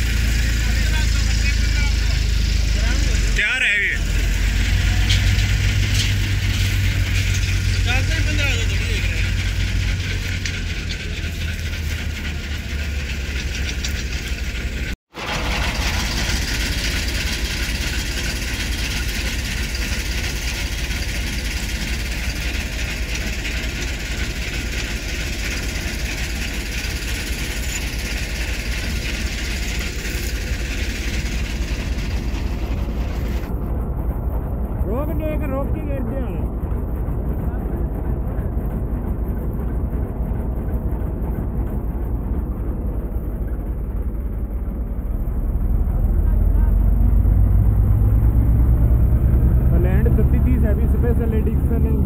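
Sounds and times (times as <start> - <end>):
tractor diesel engine idling: 0.0 - 52.0.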